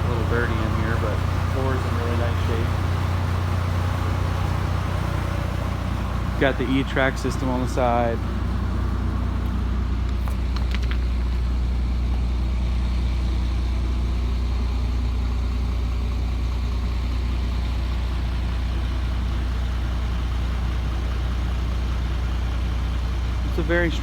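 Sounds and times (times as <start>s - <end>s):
diesel truck idling: 0.0s - 24.0s.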